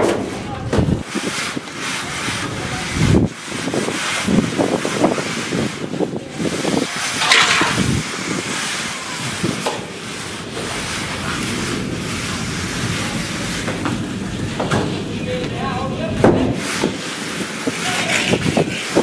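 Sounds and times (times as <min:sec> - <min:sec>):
straightedge scraping render: 0:00.0 - 0:19.0
wind buffeting microphone: 0:00.6 - 0:01.6, 0:02.2 - 0:09.7, 0:10.4 - 0:19.0.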